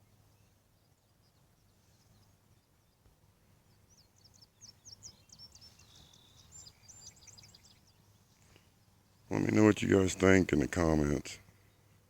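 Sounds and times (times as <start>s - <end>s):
low background hum: 0.0s - 12.0s
songbird chirping: 0.0s - 12.0s.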